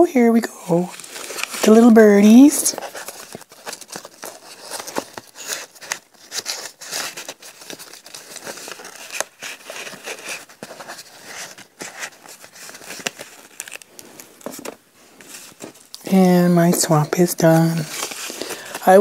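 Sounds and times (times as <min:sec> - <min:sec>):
paper crinkling and rustling: 0:00.6 - 0:19.0.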